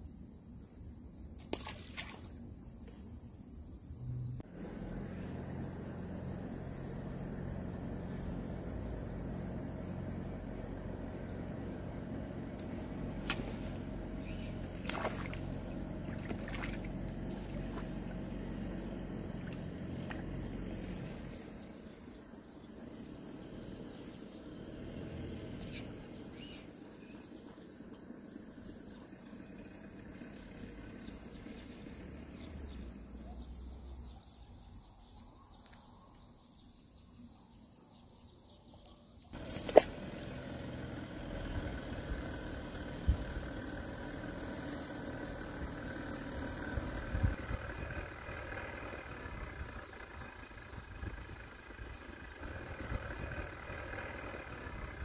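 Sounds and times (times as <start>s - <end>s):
low hum: 0.6s - 35.4s, 39.4s - 55.0s.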